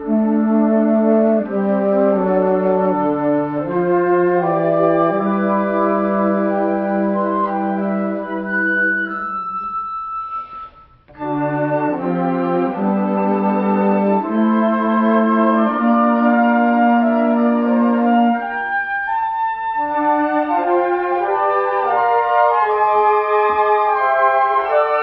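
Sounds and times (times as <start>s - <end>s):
organ chords: 0.0s - 25.0s.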